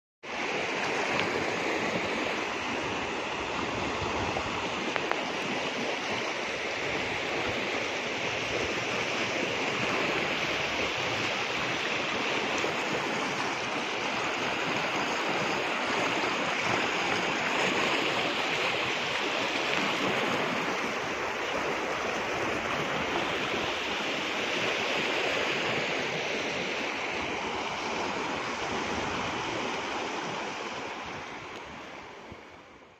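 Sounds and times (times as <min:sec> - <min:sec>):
floodwater rushing: 0:00.2 - 0:32.9.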